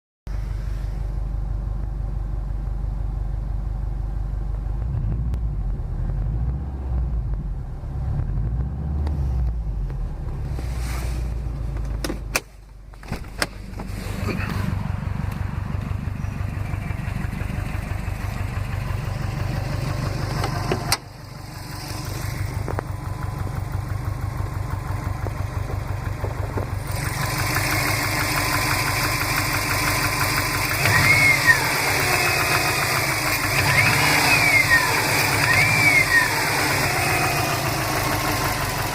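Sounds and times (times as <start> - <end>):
car engine idling with knock: 1.3 - 10.7, 11.4 - 38.9.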